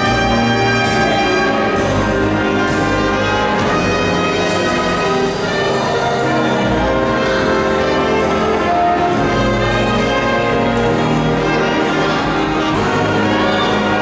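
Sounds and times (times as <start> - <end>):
orchestral brass chords: 0.0 - 14.0.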